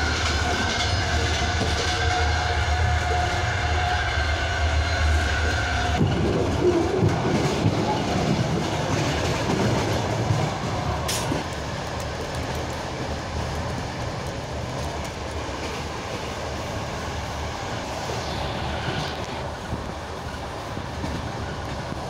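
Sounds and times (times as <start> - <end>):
moving train rumble and hiss: 0.0 - 22.0.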